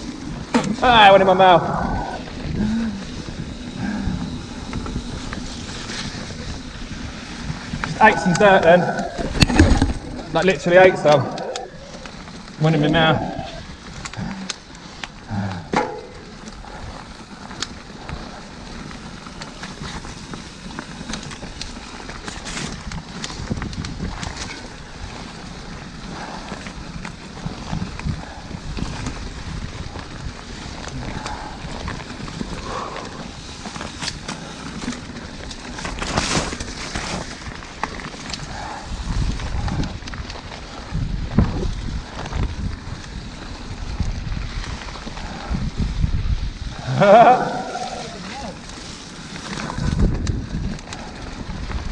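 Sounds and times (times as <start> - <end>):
bike clicks and rattles: 0.0 - 51.9
wind and tyre noise: 0.0 - 51.9.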